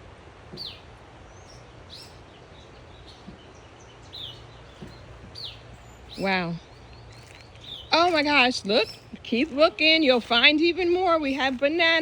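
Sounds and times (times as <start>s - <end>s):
faint low background hum: 0.0s - 12.0s.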